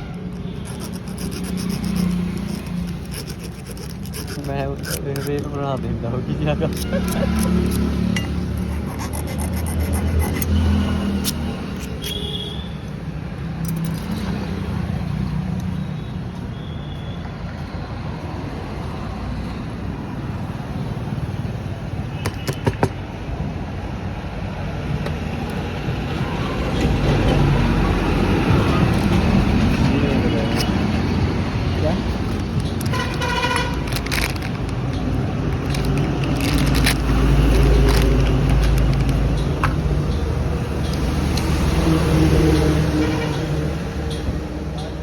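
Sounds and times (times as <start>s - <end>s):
vehicle engines rumbling: 0.0s - 16.5s, 17.4s - 45.0s.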